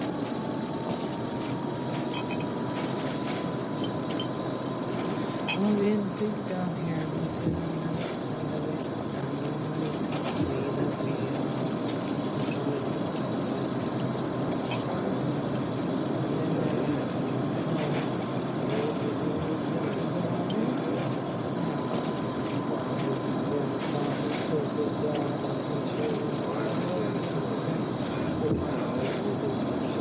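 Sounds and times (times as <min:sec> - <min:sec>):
murmuring voices: 0:00.0 - 0:30.0
steady background hum: 0:00.0 - 0:30.0.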